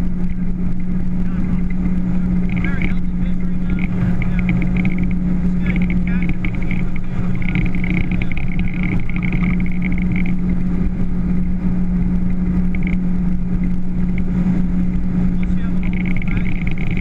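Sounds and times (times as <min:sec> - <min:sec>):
motorboat engine droning: 0:00.0 - 0:17.0.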